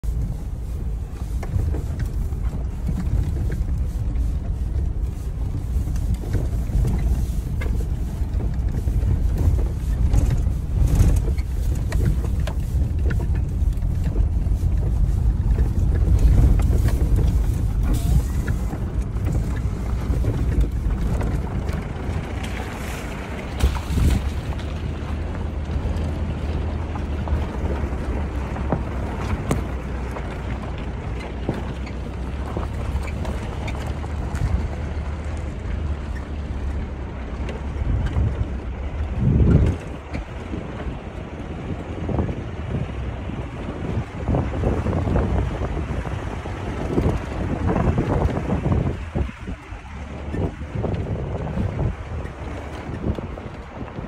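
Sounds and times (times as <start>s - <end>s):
vehicle rumbling over rocky road: 0.0s - 54.0s.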